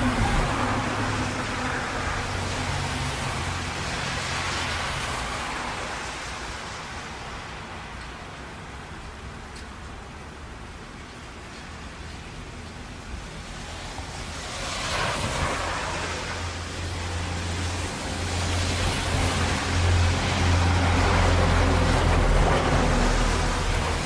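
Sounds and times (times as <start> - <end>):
heavy rain: 0.0 - 24.0
tyres hissing on wet pavement: 0.0 - 24.0.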